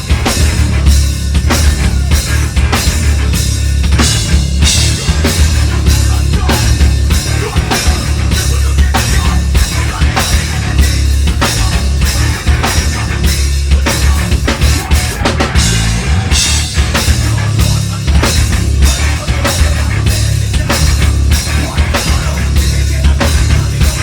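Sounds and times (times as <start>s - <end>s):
heavy metal band playing live: 0.0s - 24.0s
loud drum kit hits: 0.0s - 24.0s.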